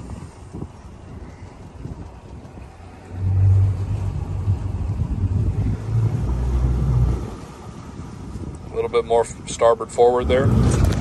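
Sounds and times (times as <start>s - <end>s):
outboard engines rumbling: 0.0s - 11.0s.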